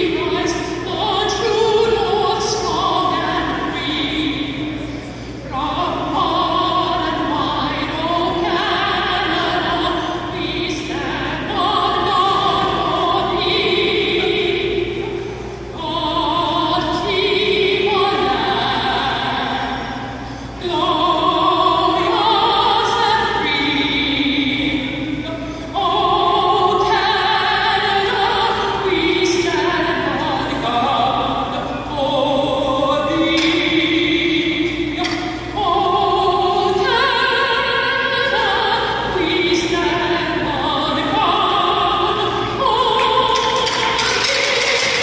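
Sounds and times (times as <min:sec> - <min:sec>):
woman singing operatically: 0:00.0 - 0:45.0.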